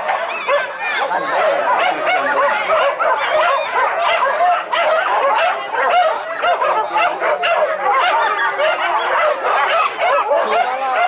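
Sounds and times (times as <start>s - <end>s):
dogs yelping and whining: 0.0s - 11.0s.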